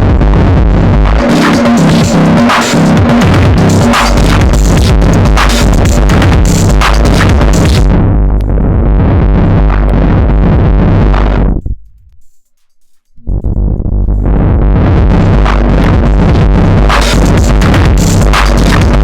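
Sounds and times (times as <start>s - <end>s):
synth and drum machine loop: 0.0s - 19.0s.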